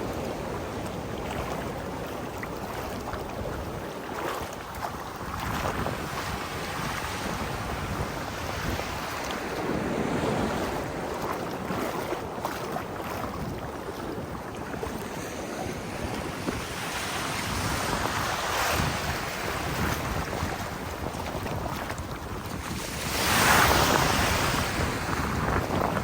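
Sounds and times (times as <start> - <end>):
ocean surf breaking on beach: 0.0 - 26.0
wind buffeting microphone: 0.0 - 26.0.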